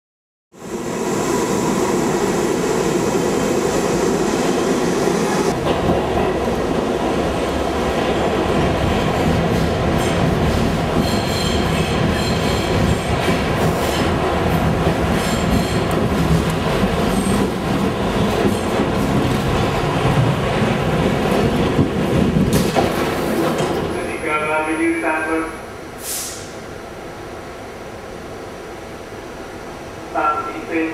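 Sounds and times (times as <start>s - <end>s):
subway wheels on track: 0.6s - 30.9s.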